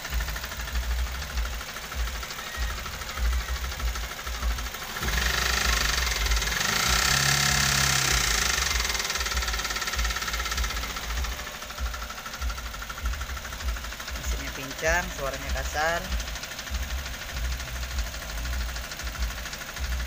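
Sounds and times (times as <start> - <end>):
car engine running rough: 0.0 - 20.0.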